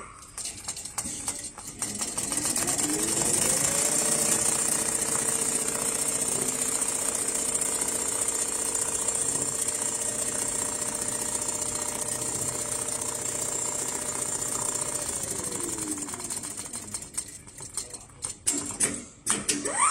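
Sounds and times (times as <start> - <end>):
sewing machine needle clatter: 0.2 - 18.9
sewing machine motor whine: 0.4 - 17.8.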